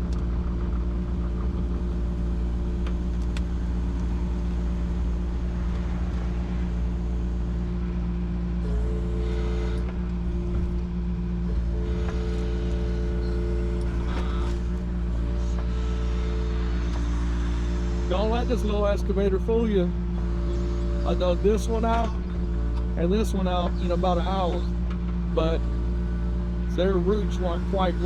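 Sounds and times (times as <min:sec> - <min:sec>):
excavator diesel engine running: 0:00.0 - 0:28.0
higher steady tone: 0:00.9 - 0:28.0.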